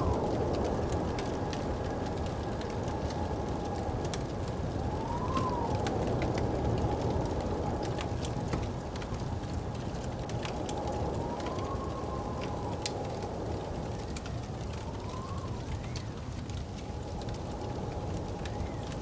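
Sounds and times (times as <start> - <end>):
crackling wood fire with pops: 0.0 - 19.0
whistling snowstorm wind: 0.0 - 19.0.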